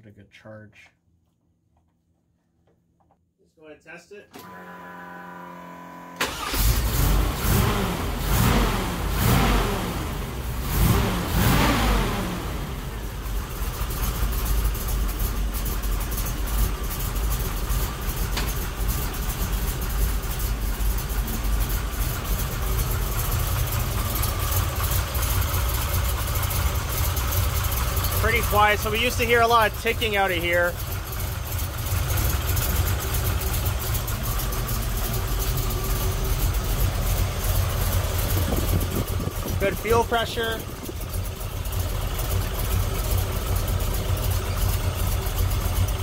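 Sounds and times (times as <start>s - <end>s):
car engine revving and idling: 4.6s - 46.0s.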